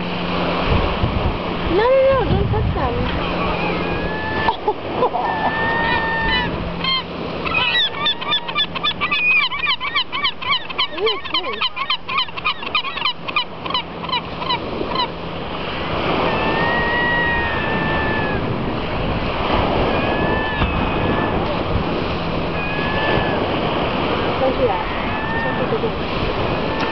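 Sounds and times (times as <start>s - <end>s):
gulls calling: 0.0s - 26.9s
surf washing on shore: 0.0s - 26.9s.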